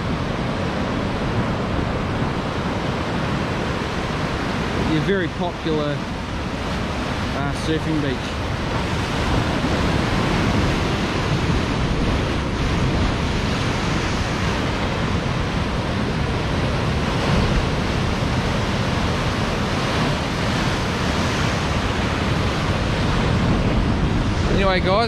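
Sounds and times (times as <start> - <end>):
ocean waves breaking: 0.0 - 25.0
wind buffeting microphone: 0.0 - 25.0.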